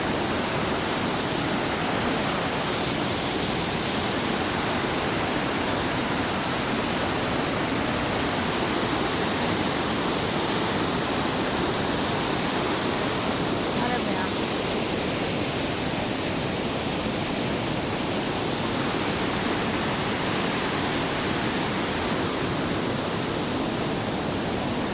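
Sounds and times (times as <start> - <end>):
canal water rushing: 0.0 - 24.9.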